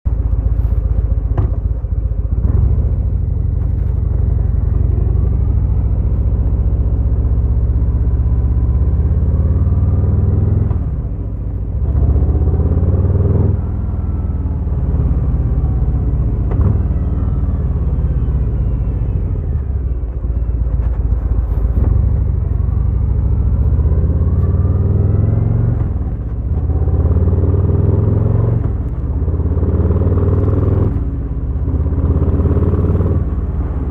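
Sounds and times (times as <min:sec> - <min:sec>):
motorcycle engine accelerating: 0:00.1 - 0:33.9.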